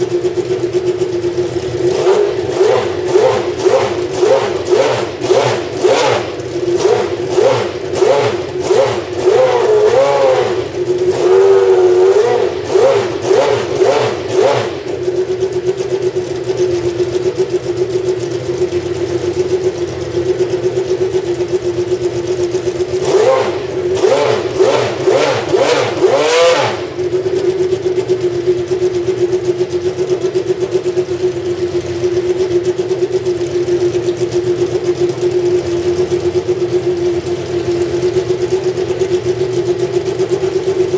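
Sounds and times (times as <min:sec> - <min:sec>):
racing car engine idling: 0:00.0 - 0:40.9
racing car engine throttle blips: 0:00.0 - 0:40.9.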